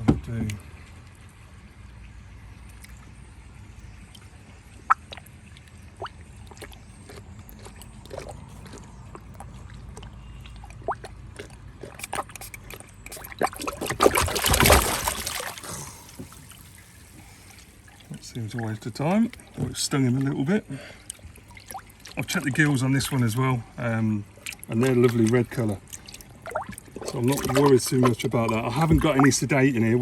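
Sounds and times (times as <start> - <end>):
water dripping and trickling: 0.0 - 30.0
water splashing and sloshing: 0.0 - 30.0.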